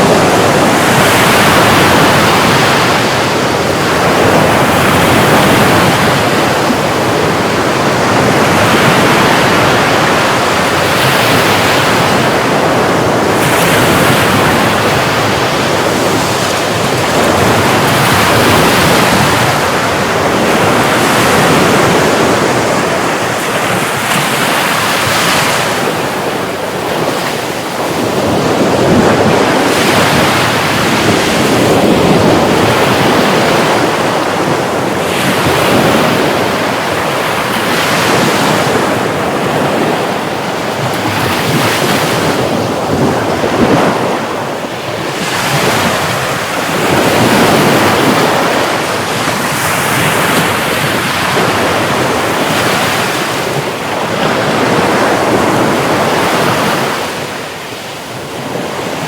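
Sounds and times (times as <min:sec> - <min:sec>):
sea surf washing on shore: 0:00.0 - 0:59.0.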